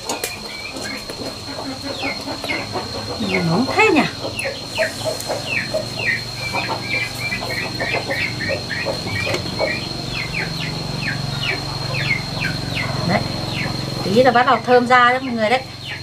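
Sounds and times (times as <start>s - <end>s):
birds chirping: 0.0s - 16.0s
high-pitched whine: 0.2s - 16.0s.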